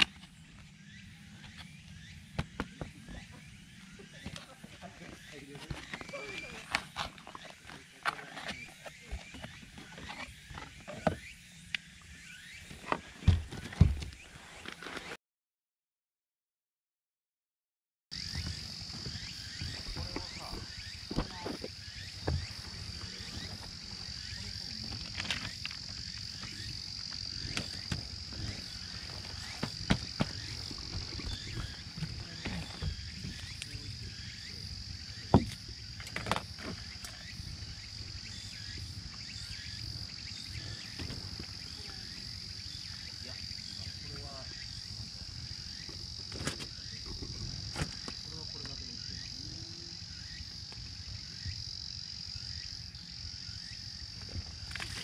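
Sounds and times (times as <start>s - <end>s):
insects chirping: 0.0s - 15.1s, 18.1s - 55.0s.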